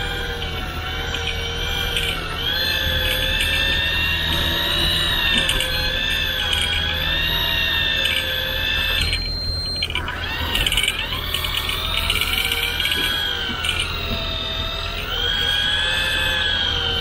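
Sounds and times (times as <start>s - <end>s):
fishing reel motor whining: 0.0s - 17.0s
steady low hum: 0.0s - 17.0s
clicks: 0.2s - 15.6s.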